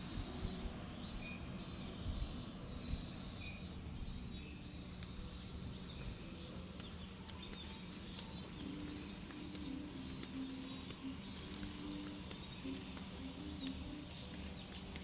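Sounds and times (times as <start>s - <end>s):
high buzzing insect calls: 0.0s - 15.0s
wind rumbling on microphone: 0.0s - 15.0s.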